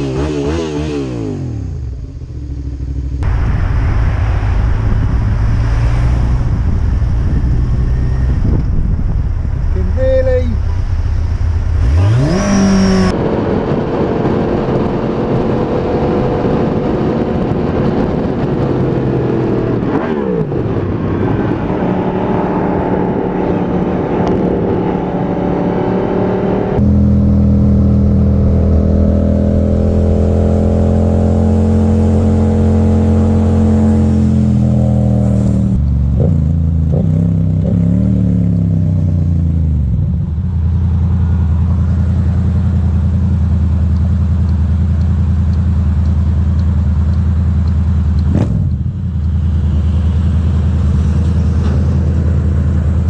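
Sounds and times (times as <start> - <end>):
motorcycle engine revving: 0.0 - 3.4, 4.8 - 53.0.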